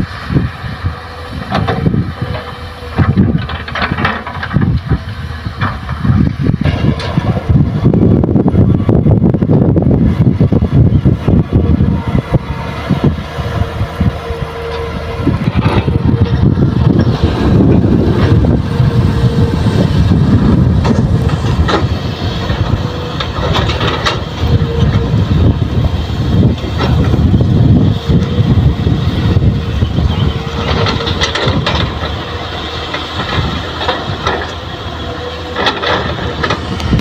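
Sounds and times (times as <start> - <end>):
excavator diesel engine running: 0.0 - 37.0
excavator clanks and knocks: 1.1 - 9.8, 11.0 - 37.0.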